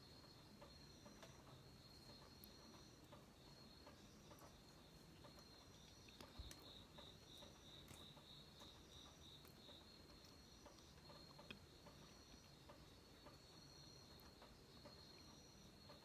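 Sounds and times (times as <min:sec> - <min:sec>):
insect pulsed chirp: 0:00.0 - 0:16.0.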